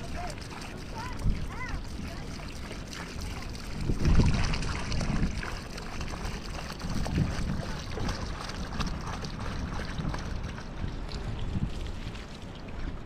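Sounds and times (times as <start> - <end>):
water pouring onto earth: 0.0 - 13.0.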